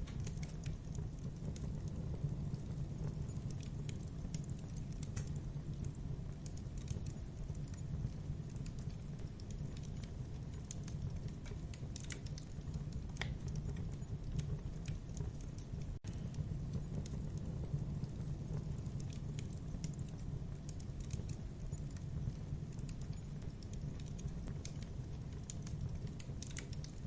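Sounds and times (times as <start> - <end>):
low rumble of flames: 0.0 - 27.0
wood crackling and popping: 0.0 - 27.0.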